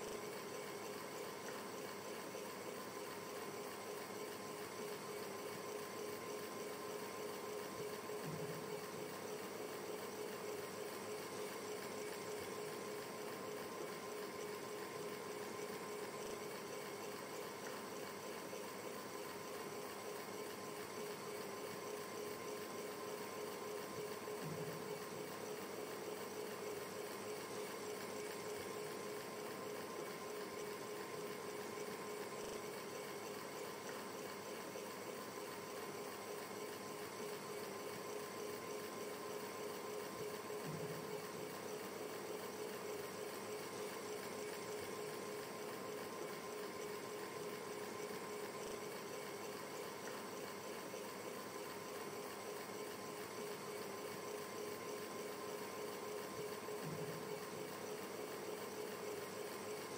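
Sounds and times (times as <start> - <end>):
faint motor hum: 0.0 - 59.9.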